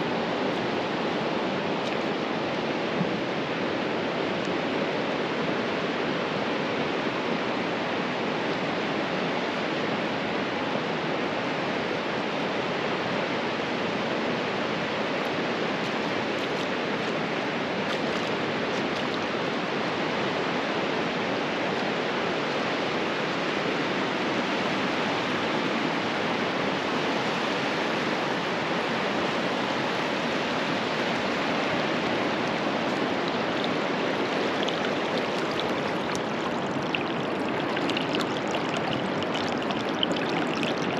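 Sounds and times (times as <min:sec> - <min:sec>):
water rushing: 0:00.0 - 0:23.6, 0:26.6 - 0:40.9.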